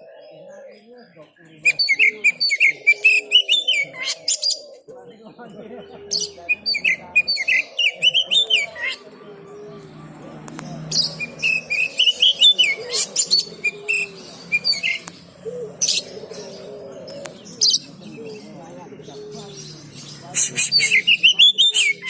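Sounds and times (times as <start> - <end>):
murmur of other birds: 0.0 - 22.0.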